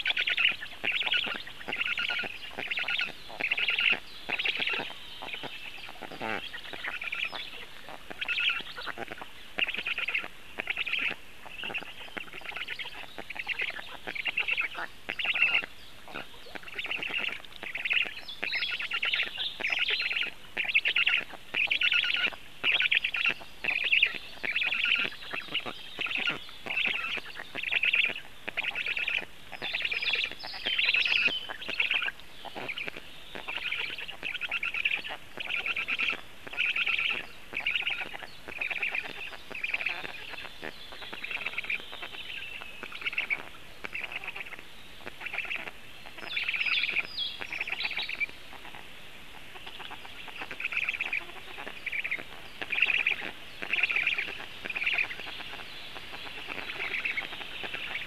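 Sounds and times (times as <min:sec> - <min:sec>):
small birds chirping: 0:00.0 - 0:58.0
stork chicks rasping calls: 0:00.0 - 0:58.0.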